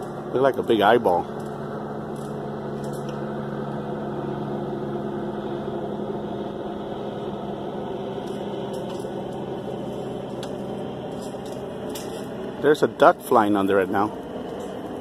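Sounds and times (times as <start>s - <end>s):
steady engine drone: 0.0s - 15.0s.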